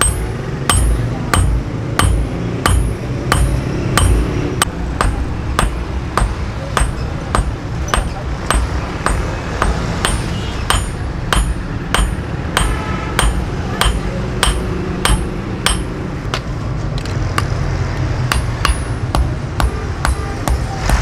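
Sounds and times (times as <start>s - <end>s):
hammer striking steel on anvil: 0.0s - 16.5s, 18.3s - 21.0s.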